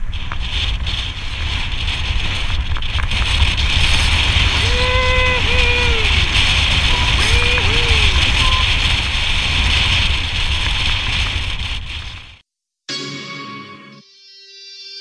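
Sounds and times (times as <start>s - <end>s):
bike tyres on pavement: 0.0s - 12.4s
wind buffeting microphone: 0.0s - 12.4s.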